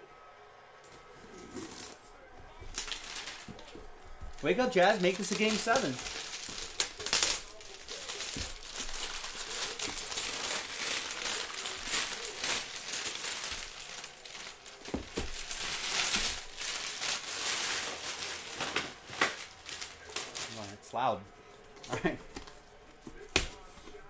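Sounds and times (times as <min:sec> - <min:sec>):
plastic shrink wrap crinkling: 0:01.6 - 0:20.8.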